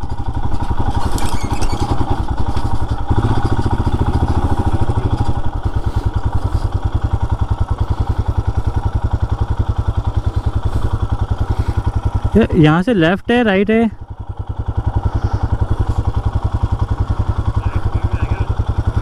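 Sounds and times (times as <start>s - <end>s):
motorcycle engine thumping: 0.0s - 12.9s, 14.0s - 19.0s.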